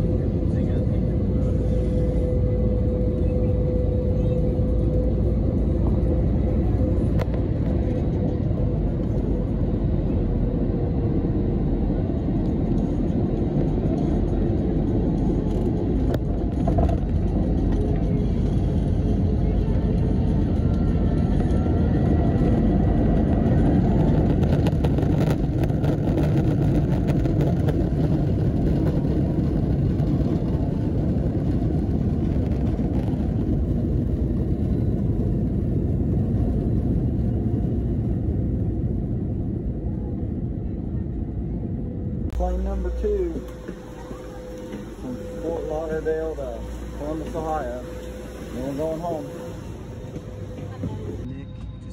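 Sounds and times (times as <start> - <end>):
jet engine rumble: 0.0 - 51.9.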